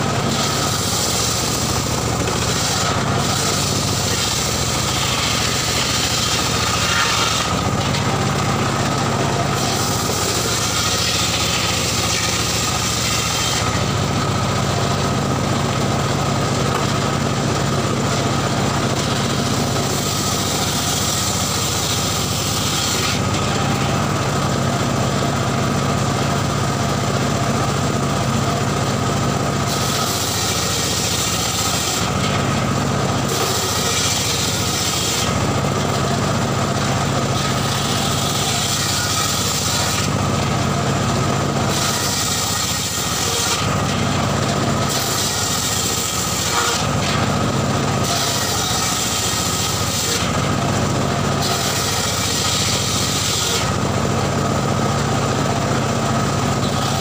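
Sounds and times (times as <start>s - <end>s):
saw blade ripping wood: 0.0s - 25.9s, 28.9s - 57.0s
engine droning: 0.0s - 57.0s.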